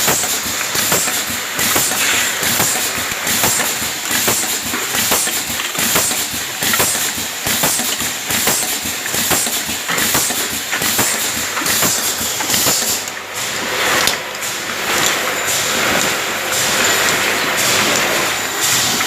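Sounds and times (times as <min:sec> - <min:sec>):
aerosol filling machine clacking: 0:00.0 - 0:19.0.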